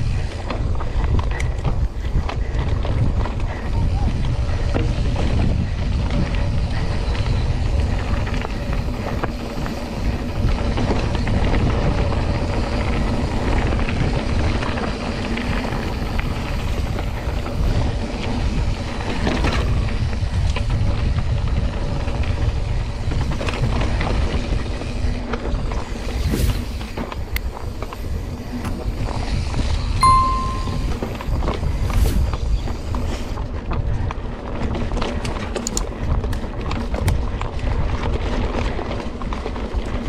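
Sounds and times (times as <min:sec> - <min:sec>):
bike rattling and clicking: 0:00.0 - 0:40.0
low rumble of wind: 0:00.0 - 0:40.0.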